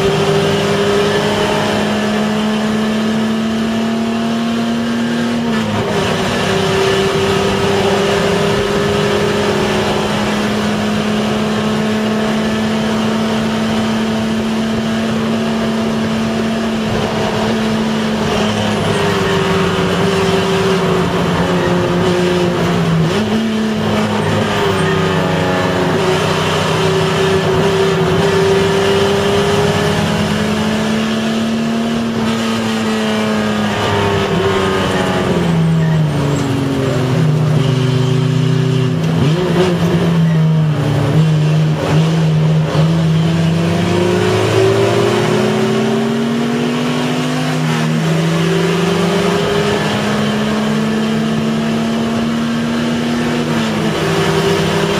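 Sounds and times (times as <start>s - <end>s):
race car engine from inside cabin: 0.0s - 54.9s.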